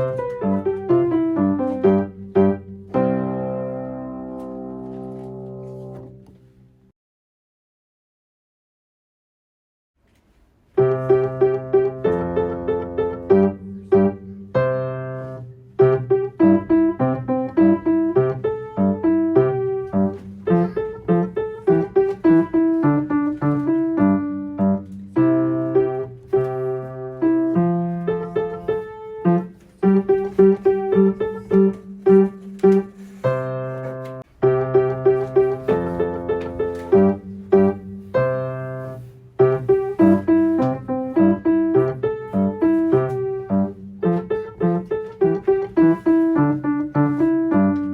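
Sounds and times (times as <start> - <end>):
solo piano playing a simple melody: 0.0 - 6.6, 10.7 - 47.9.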